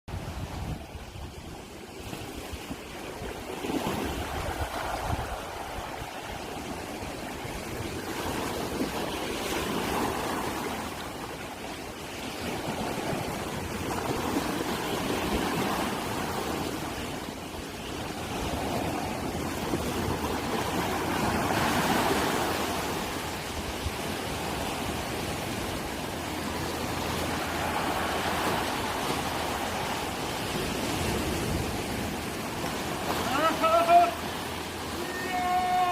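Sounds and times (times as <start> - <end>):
rushing water: 0.1 - 35.9.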